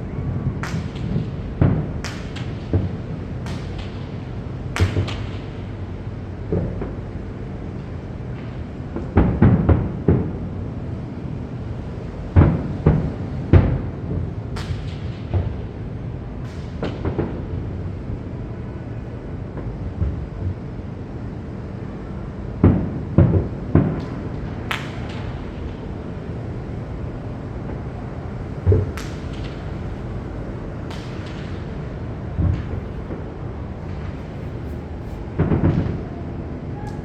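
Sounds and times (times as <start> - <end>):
steady background rumble: 0.0 - 37.0
fireworks booming and cracking: 0.5 - 37.0.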